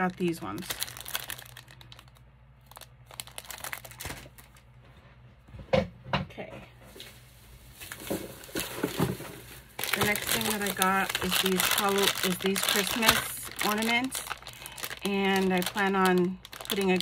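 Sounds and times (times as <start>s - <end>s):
cellophane crinkling and rustling: 0.0s - 4.8s, 6.9s - 17.0s.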